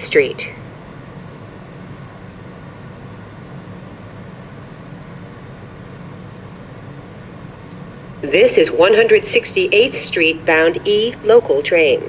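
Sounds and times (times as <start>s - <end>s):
subway car rumble and hiss: 0.0s - 12.0s.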